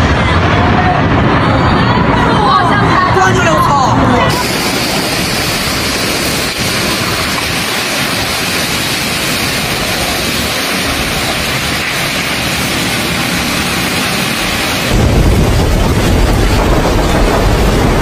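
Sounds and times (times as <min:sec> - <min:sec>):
torrential rain in strong wind: 0:00.0 - 0:18.0.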